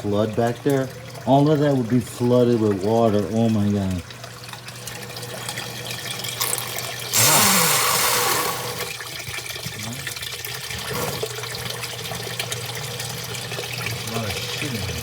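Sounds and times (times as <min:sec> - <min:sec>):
sump pump humming: 0:00.0 - 0:15.0.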